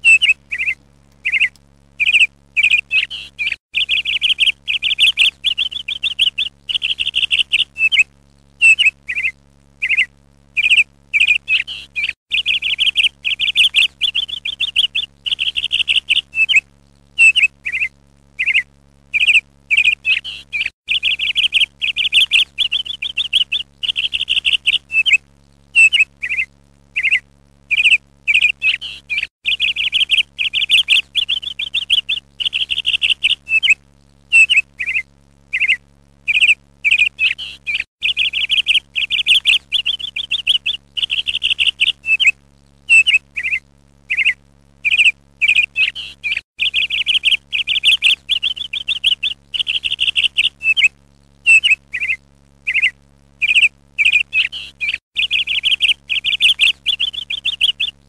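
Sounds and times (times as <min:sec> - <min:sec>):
songbird chirping and trilling: 0:00.0 - 0:25.2, 0:25.8 - 0:50.9, 0:51.5 - 0:58.0
faint low hum: 0:00.0 - 0:58.0.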